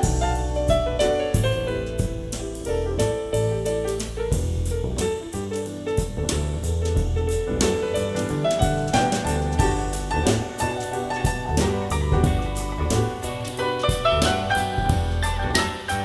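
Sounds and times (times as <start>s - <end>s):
instrumental jazz: 0.0s - 16.0s.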